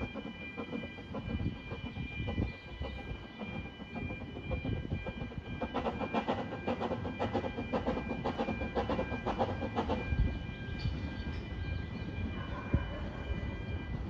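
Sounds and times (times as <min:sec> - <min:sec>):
steady high-pitched tones: 0:00.0 - 0:14.0.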